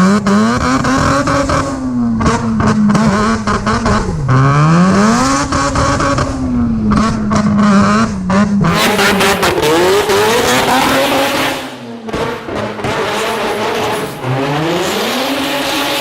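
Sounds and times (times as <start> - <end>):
car engine revving hard: 0.0 - 16.0.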